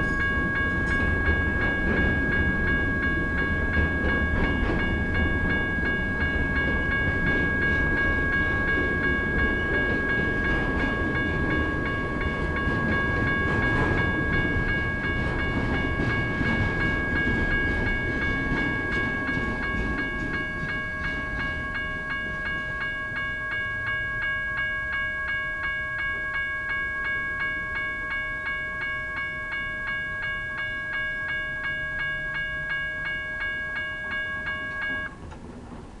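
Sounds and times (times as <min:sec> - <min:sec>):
electronic crossing bell ringing: 0:00.0 - 0:35.2.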